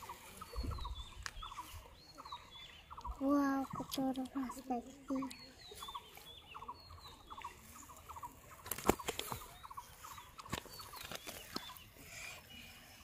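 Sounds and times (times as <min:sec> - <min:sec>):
thin high bird chirps: 0:00.0 - 0:12.7.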